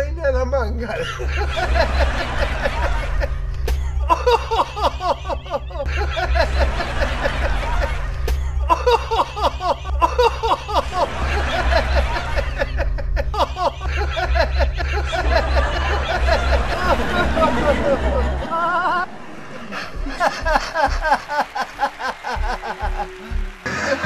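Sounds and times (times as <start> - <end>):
steady low hum: 0.0 - 21.2
men laughing: 0.9 - 24.0.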